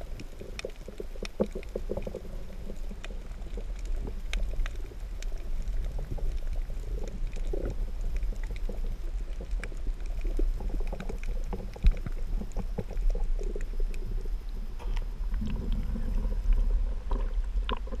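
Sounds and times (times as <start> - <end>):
muffled underwater rumble: 0.0 - 18.0
small underwater clicks and crackles: 0.0 - 18.0.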